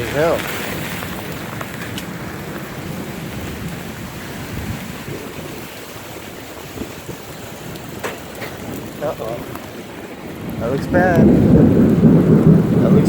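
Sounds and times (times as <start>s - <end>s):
hailstones ticking: 0.0s - 13.0s
heavy rain rushing: 0.0s - 13.0s.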